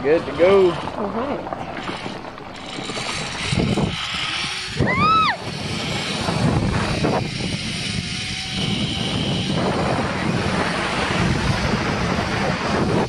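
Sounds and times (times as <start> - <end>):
zipline pulleys whirring on cable: 0.0 - 13.0.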